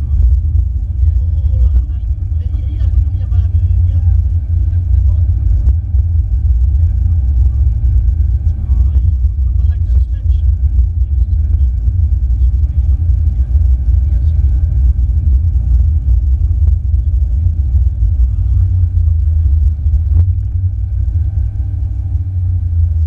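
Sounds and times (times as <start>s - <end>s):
car engine rumble: 0.0s - 23.0s.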